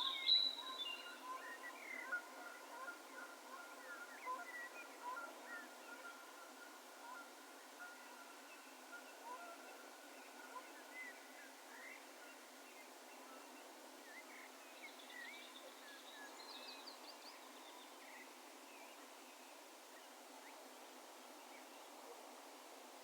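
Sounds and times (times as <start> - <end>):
open field ambience hiss: 0.0 - 23.0.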